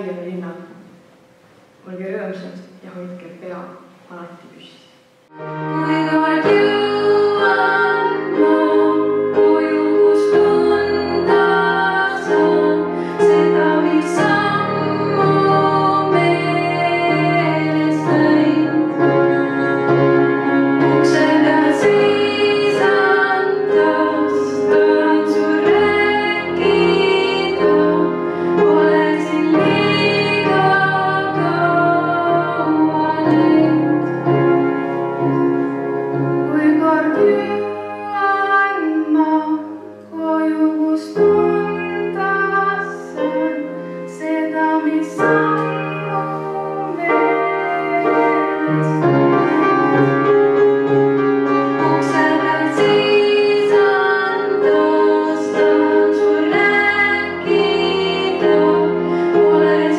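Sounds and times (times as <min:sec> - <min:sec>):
grand piano accompaniment: 0:05.1 - 0:59.9
woman singing into a microphone: 0:05.7 - 0:20.0, 0:20.8 - 0:34.2, 0:36.5 - 0:49.6, 0:51.8 - 0:59.9.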